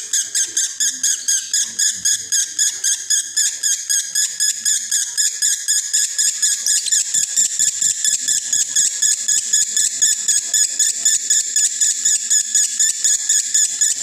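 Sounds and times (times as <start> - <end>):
lovebird chattering: 0.0 - 14.0.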